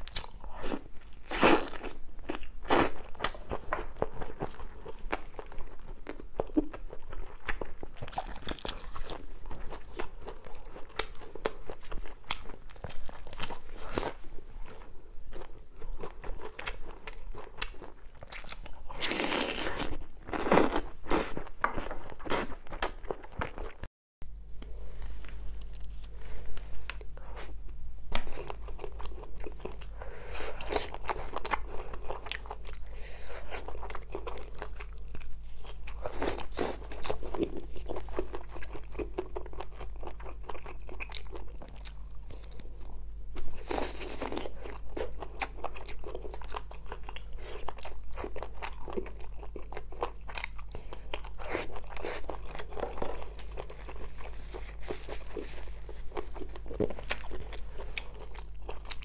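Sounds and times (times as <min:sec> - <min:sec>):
person crunching and chewing food: 0:00.0 - 0:23.9, 0:26.8 - 0:59.0.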